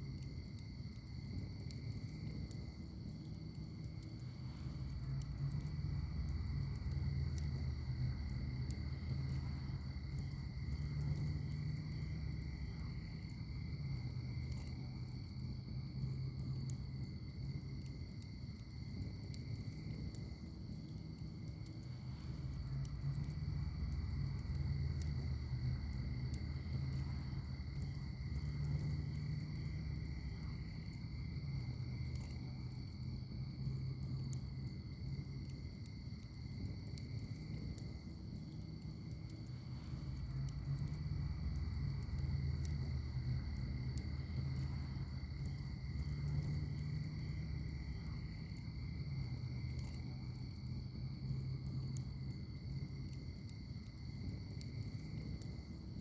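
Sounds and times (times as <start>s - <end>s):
fire crackles: 0.0s - 56.0s
rumble of fire flames: 0.0s - 56.0s.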